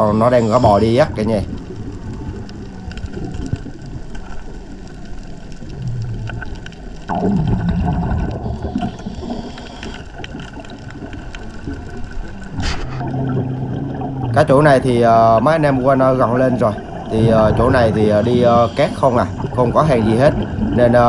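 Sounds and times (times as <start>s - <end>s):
underwater bubbling and gurgling: 0.0s - 21.0s.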